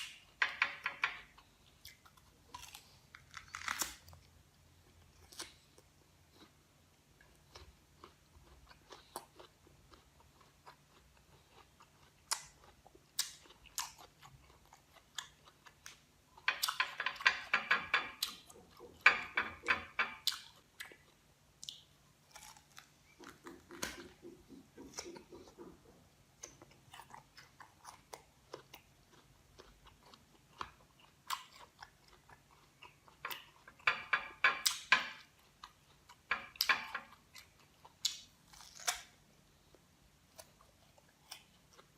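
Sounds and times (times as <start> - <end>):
crunching and chewing fruit: 1.2 - 17.5, 18.2 - 19.2, 20.2 - 33.9, 34.6 - 41.9.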